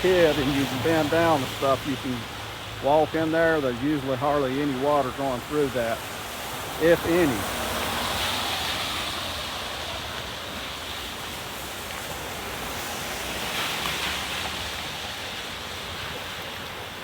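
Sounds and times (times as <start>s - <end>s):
water pouring through pipes: 0.0s - 15.4s
floodwater rushing: 0.0s - 17.0s.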